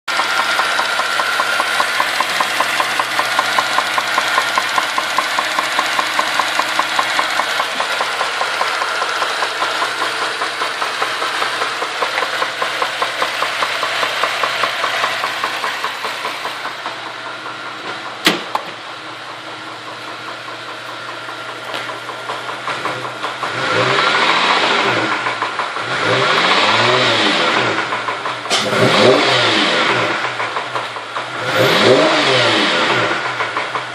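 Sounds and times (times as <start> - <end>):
engine revving: 0.1 - 17.6, 19.8 - 33.9
car engine knocking tick: 0.1 - 18.6, 19.3 - 26.5, 27.8 - 29.2, 29.9 - 32.1, 33.1 - 33.9.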